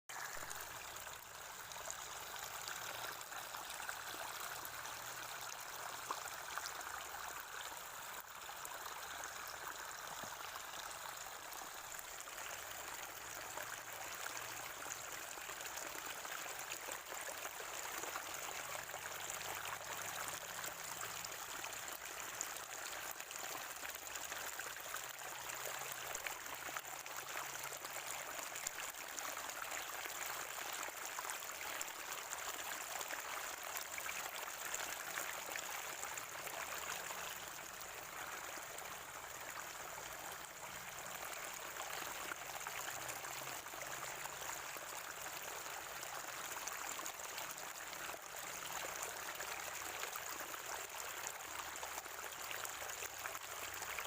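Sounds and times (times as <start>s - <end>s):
spring water gurgling: 0.1s - 54.0s.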